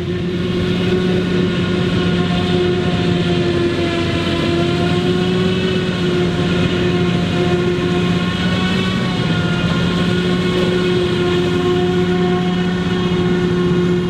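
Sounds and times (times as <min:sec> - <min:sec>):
harvester engine droning: 0:00.0 - 0:14.0
machinery humming tones: 0:00.0 - 0:14.0.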